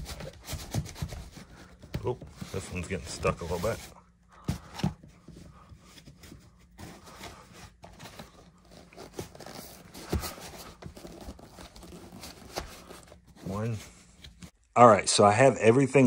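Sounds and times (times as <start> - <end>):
cardboard rubbing on foam: 0.0 - 4.0, 4.6 - 14.5.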